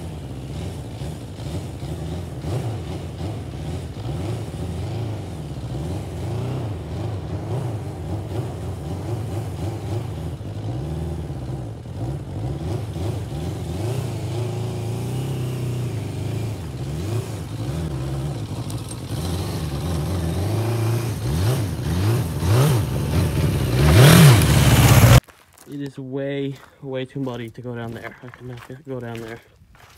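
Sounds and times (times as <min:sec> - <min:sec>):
motorcycle engine revving: 0:00.0 - 0:25.2.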